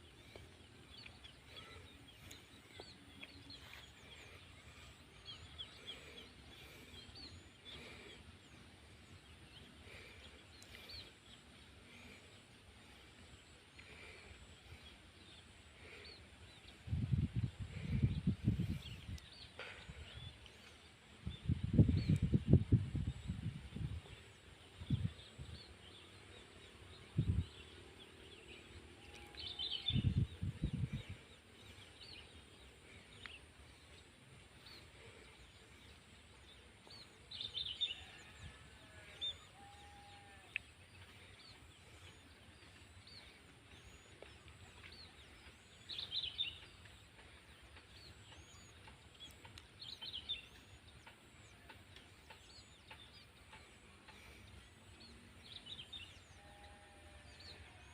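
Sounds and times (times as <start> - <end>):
lower bird calls: 0.0 - 57.9
small birds chirping: 0.0 - 57.9.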